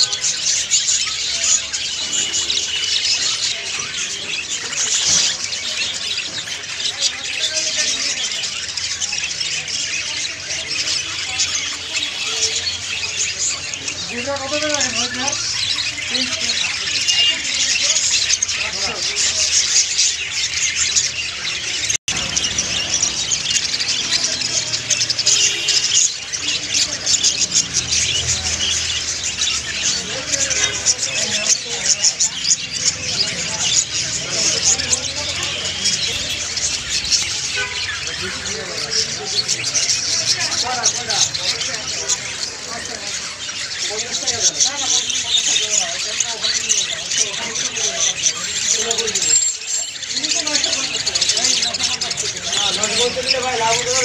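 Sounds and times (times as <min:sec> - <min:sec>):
budgerigars twittering: 0:00.0 - 0:54.0.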